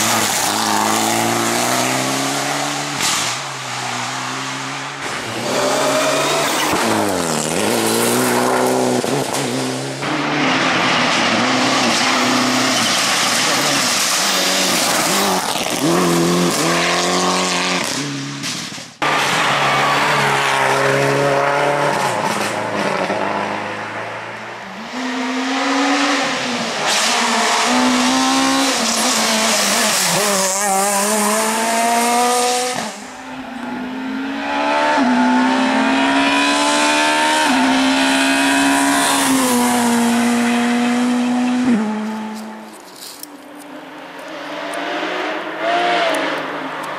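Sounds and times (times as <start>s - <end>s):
rally car engines revving: 0.0s - 43.1s, 43.7s - 46.9s.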